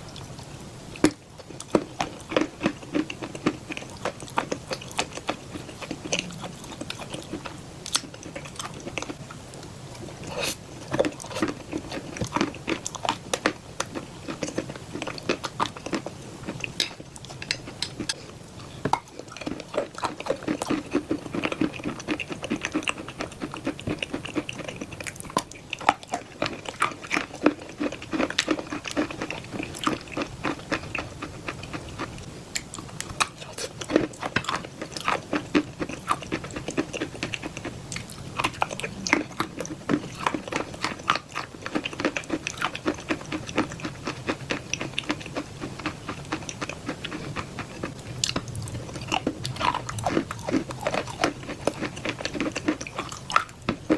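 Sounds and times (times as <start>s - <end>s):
crunchy chewing: 0.1s - 53.9s.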